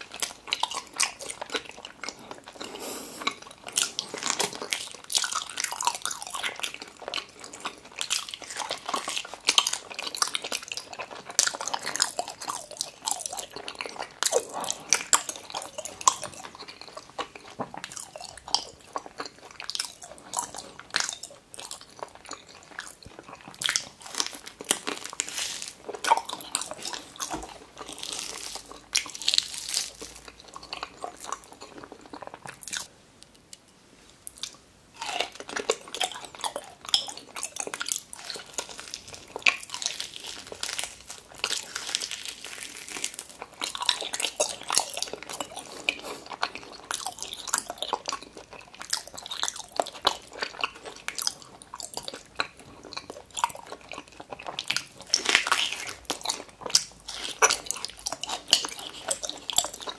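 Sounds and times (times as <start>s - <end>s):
person chewing with mouth smacking: 0.0s - 59.9s.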